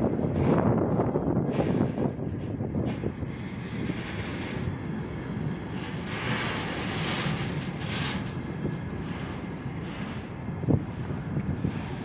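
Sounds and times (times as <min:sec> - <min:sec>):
rushing noise of passing train: 0:00.0 - 0:12.0
train wheels rumbling on rails: 0:00.0 - 0:12.0.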